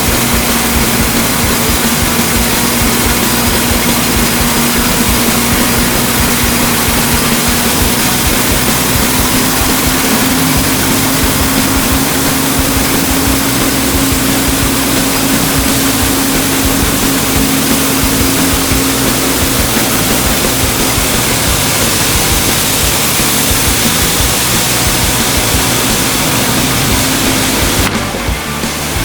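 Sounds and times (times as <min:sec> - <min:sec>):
engine droning: 0:00.0 - 0:29.0
sawmill hum: 0:00.0 - 0:29.0.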